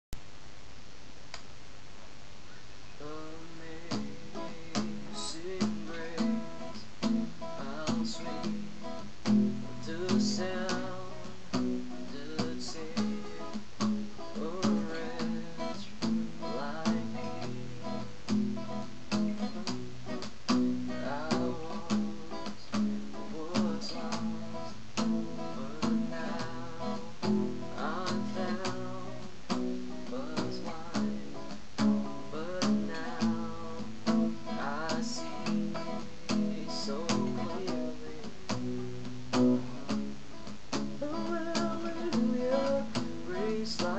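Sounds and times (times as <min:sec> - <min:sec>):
microphone static: 0:00.0 - 0:43.9
acoustic guitar strumming: 0:03.1 - 0:43.9.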